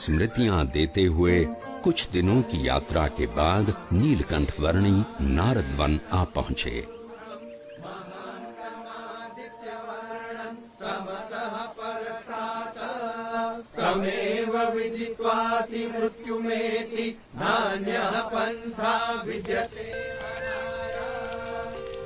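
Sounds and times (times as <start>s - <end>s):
men chanting: 2.2s - 21.8s.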